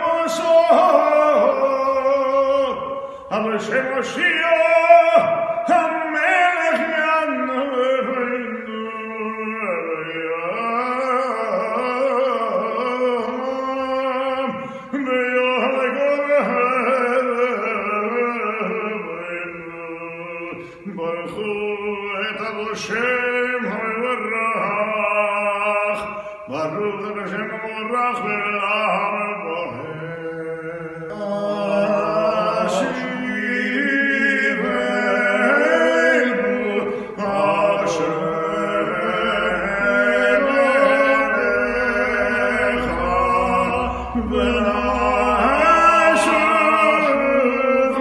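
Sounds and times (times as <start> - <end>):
man chanting unaccompanied: 0.0 - 48.0.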